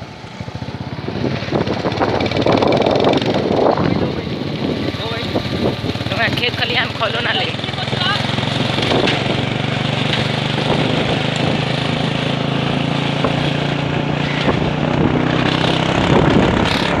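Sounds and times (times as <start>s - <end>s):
motorcycle engine running: 0.0s - 17.0s
road noise: 0.0s - 17.0s
wind noise: 0.0s - 17.0s.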